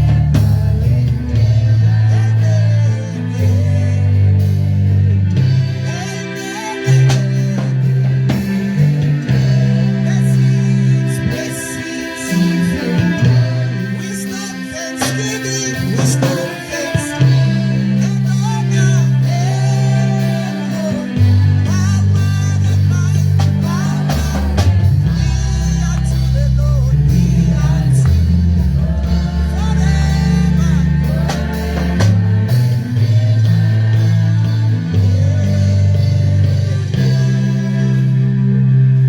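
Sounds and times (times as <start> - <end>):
people singing: 0.0 - 39.0
worship band playing: 0.0 - 39.0.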